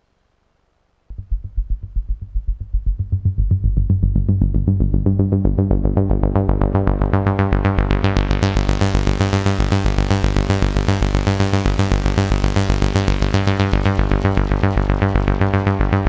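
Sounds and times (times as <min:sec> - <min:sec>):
pulsing synth bass: 0:01.1 - 0:16.0
synthesizer sequenced pattern: 0:01.1 - 0:16.0.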